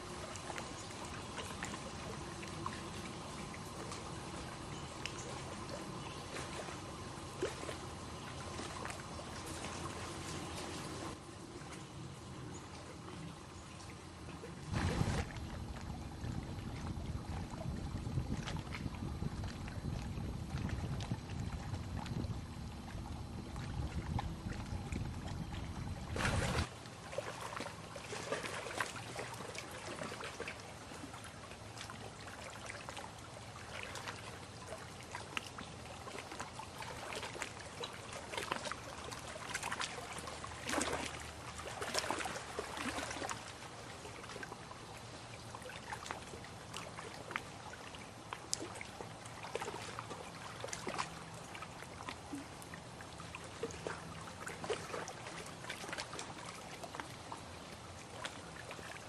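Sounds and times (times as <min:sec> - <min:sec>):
faint low hum: 0:00.0 - 0:59.0
small splashes and drips: 0:00.0 - 0:59.0
water lapping and trickling: 0:00.0 - 0:59.0.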